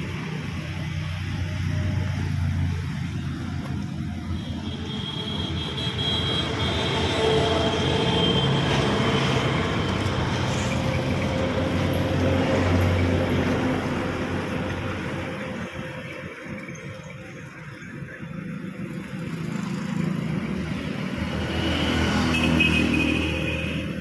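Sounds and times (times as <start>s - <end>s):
passing traffic: 0.0s - 24.0s.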